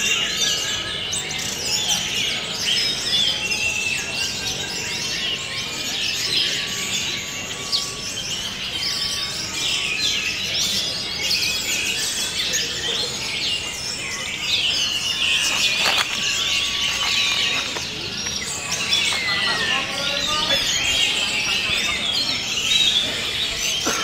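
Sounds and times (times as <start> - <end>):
thrushes singing: 0.0 - 24.0.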